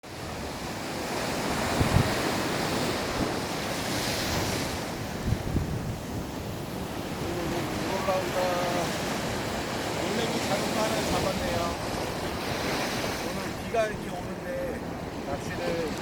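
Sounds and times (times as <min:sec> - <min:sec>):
sea waves washing in: 0:00.0 - 0:16.0
wind buffeting microphone: 0:00.0 - 0:16.0.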